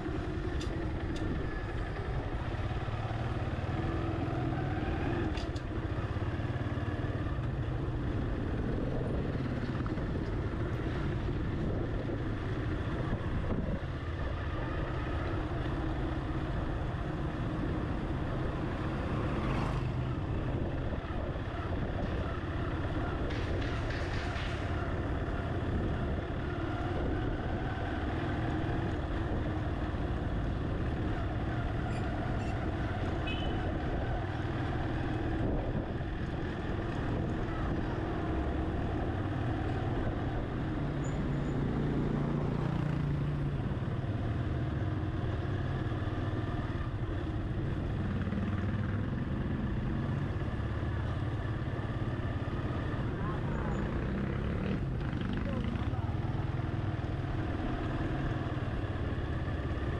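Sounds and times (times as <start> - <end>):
vehicle driving slowly: 0.0 - 59.9.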